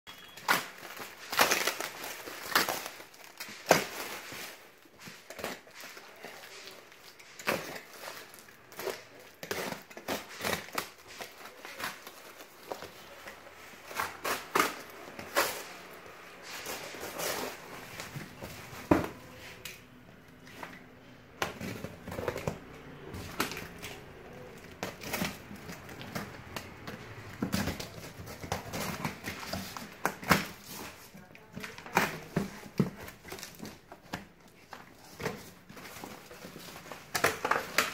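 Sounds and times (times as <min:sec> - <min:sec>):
plastic wrap crinkling and ripping: 0:00.1 - 0:37.9.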